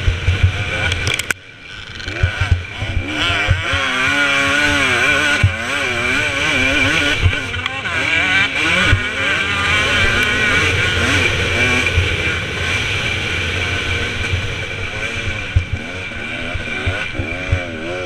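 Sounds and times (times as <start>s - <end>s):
motocross engine revving: 0.0s - 18.0s.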